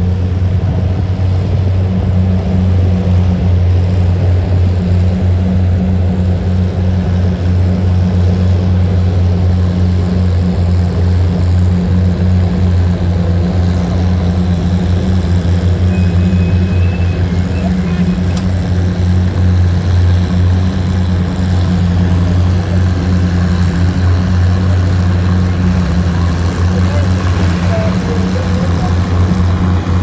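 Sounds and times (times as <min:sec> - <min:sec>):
tractor engines under heavy load: 0:00.0 - 0:30.0.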